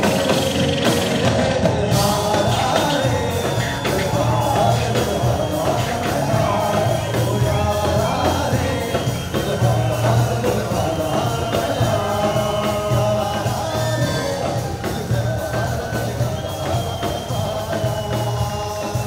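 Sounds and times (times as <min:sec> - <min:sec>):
beatboxing: 0:00.0 - 0:19.0
men singing: 0:00.0 - 0:19.0.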